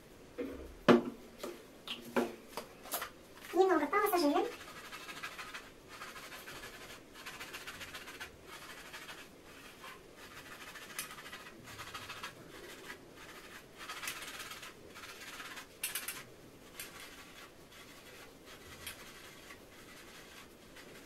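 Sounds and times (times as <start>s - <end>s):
brush scratching on scalp: 3.4s - 21.0s.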